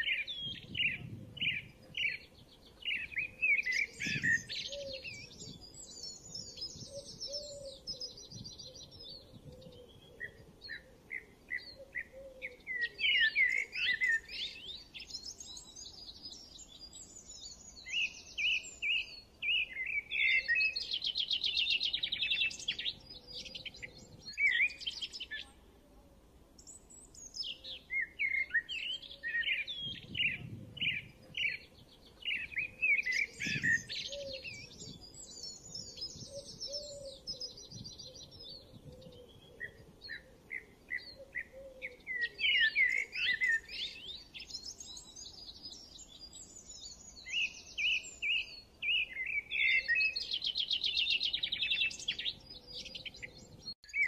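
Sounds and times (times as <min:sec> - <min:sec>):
small birds chirping: 0:00.0 - 0:26.0, 0:26.6 - 0:54.0.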